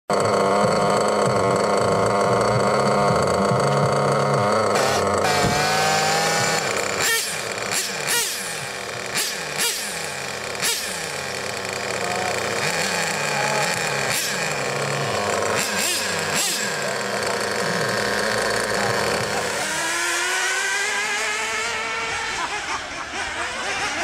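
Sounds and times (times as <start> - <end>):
nitro engine revving: 0.1 - 24.0.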